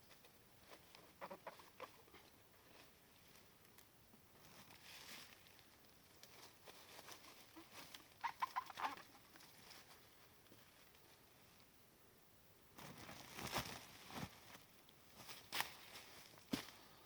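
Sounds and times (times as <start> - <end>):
faint rustling: 0.0 - 11.8, 12.8 - 17.0.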